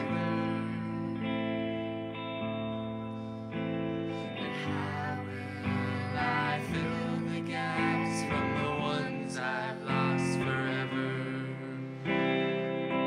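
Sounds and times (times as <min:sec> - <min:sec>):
electric guitar chords: 0:00.0 - 0:13.0
person singing: 0:00.0 - 0:13.0.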